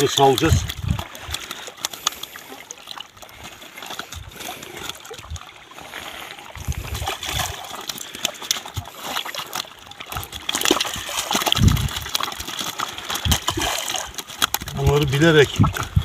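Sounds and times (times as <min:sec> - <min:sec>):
fish stirring in net: 0:00.0 - 0:16.0
water splashing and sloshing: 0:00.0 - 0:16.0.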